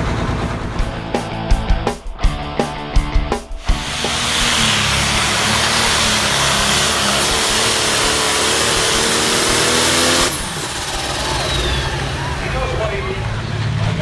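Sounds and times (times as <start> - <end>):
engine at full throttle: 0.0 - 1.2, 3.6 - 14.0.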